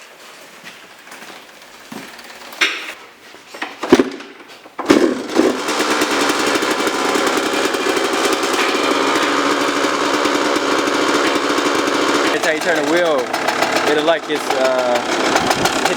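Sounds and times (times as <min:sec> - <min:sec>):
small engine running: 0:01.1 - 0:03.0, 0:04.9 - 0:15.9.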